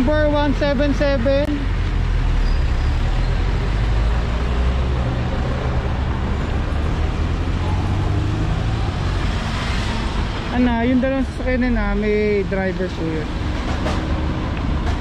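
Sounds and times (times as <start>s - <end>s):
street traffic noise: 0.0s - 15.0s
vehicle engine rumble: 0.0s - 15.0s.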